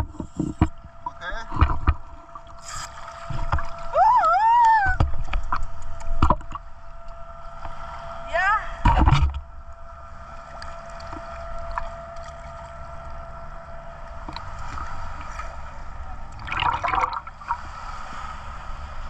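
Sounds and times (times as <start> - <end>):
boat engine running: 0.0 - 17.5
water noise: 0.0 - 19.0.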